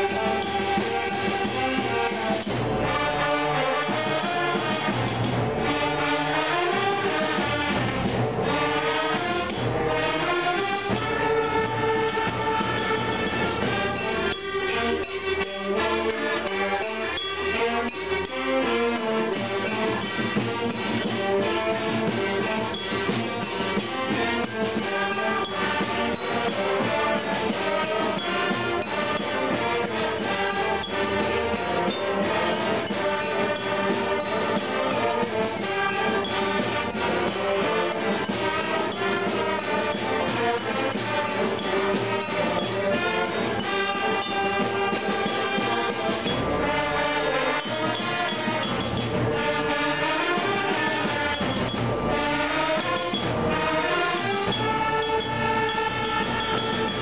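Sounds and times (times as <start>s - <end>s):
concert band playing: 0.0s - 57.0s.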